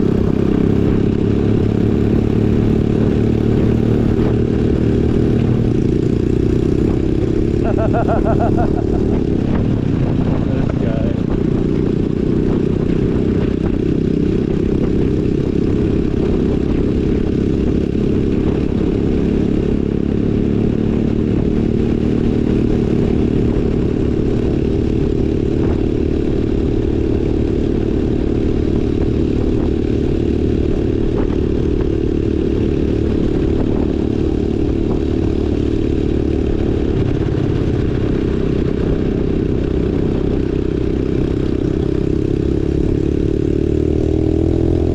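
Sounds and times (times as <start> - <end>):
off-road motorcycle engine running: 0.0 - 44.9.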